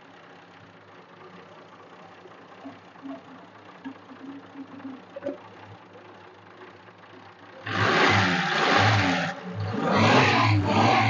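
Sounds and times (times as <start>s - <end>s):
truck engine idling and revving: 0.0s - 11.0s.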